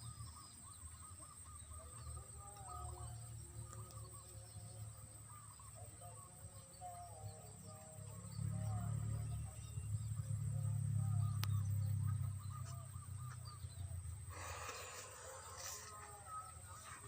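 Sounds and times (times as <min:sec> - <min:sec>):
animals chirping: 0:00.0 - 0:17.0.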